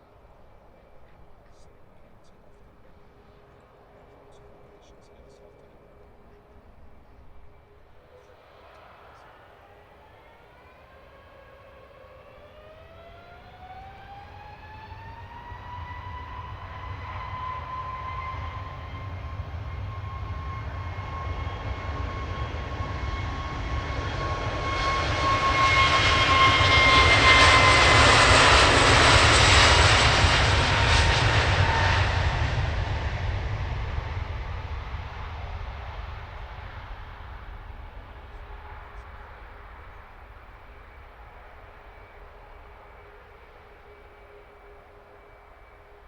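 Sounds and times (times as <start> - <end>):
jet airliner taking off: 0.0 - 46.0.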